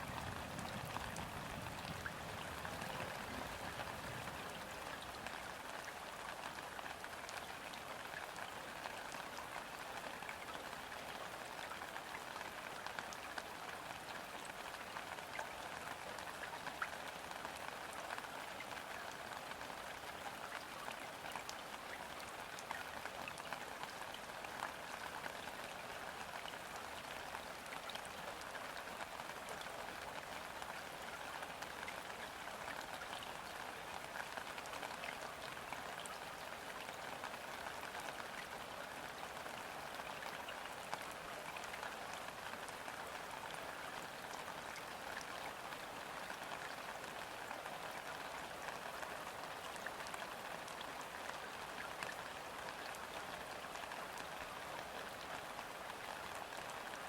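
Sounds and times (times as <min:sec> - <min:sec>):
gentle rain on water: 0:00.0 - 0:57.0.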